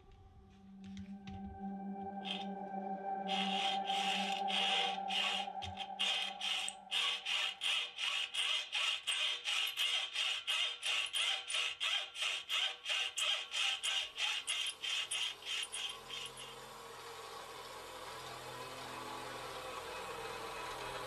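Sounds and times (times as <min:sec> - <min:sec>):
hacksaw cutting metal: 0:03.2 - 0:21.0.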